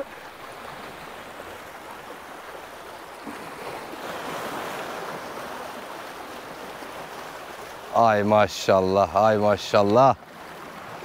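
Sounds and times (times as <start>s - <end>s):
waves washing onto shore: 0.0s - 11.0s.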